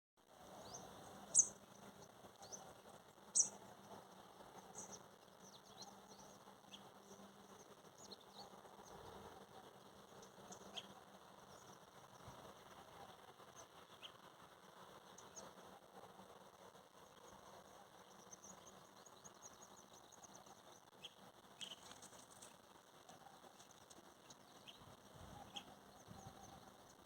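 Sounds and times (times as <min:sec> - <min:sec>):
small birds chirping: 0:00.4 - 0:27.0.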